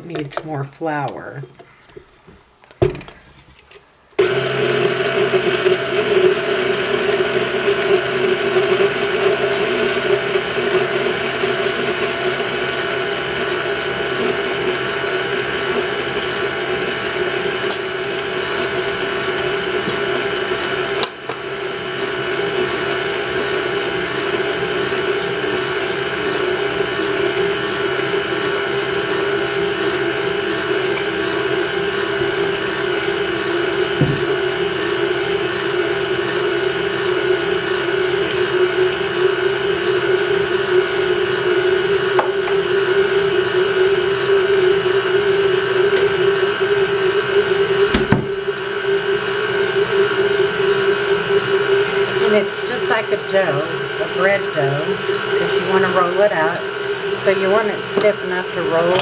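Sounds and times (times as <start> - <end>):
stand mixer motor hum: 4.2 - 59.0.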